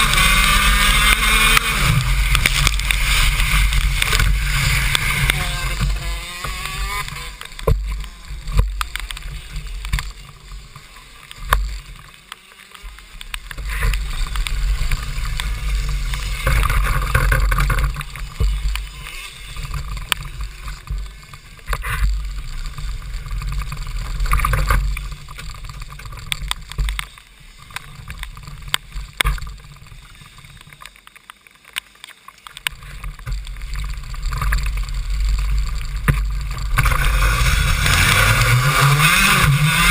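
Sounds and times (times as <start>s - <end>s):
muffled kart engine: 0.0s - 31.8s, 32.4s - 39.9s
rain ticks on microphone: 0.0s - 39.9s.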